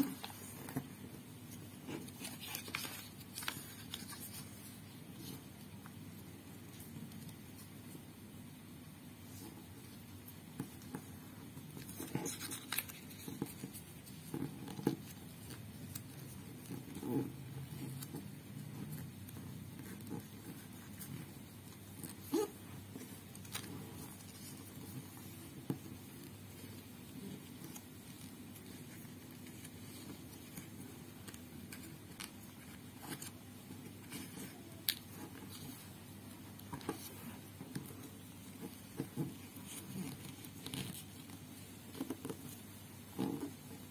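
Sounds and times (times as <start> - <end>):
paper crinkling while folded: 0.0 - 8.0, 9.3 - 43.9.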